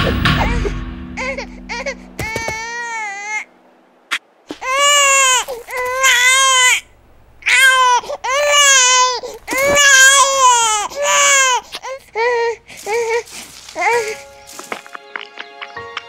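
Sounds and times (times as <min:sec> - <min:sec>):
baby crying: 0:00.0 - 0:03.5, 0:04.5 - 0:14.3.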